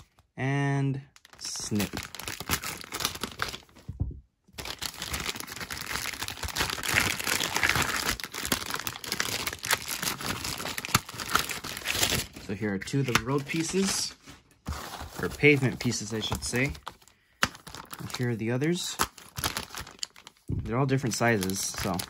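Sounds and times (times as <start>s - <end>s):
plastic bag crinkling: 1.2s - 3.8s, 4.6s - 22.0s.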